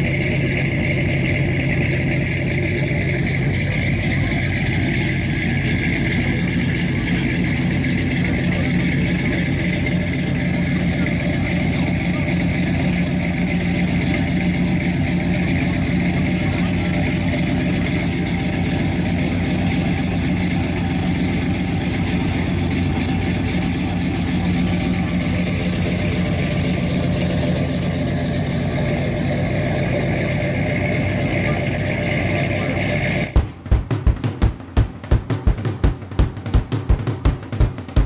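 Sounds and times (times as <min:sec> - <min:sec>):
car engine running at low speed: 0:00.0 - 0:38.0.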